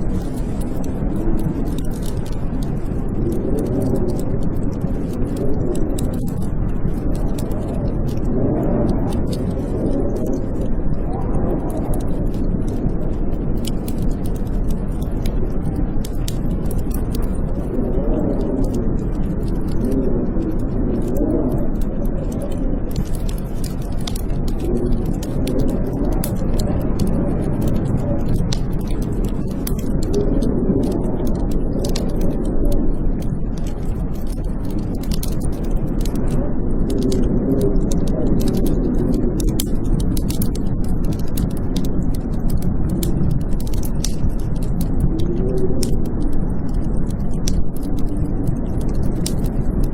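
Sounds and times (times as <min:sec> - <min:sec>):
blizzard wind howling: 0:00.0 - 0:49.9
wood fire crackling: 0:00.0 - 0:49.9.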